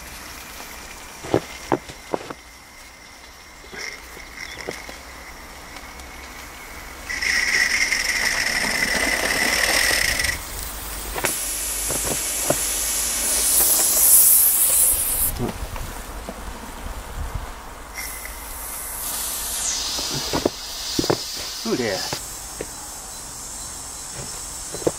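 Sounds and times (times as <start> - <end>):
steam hissing: 0.0 - 16.5, 17.7 - 24.9.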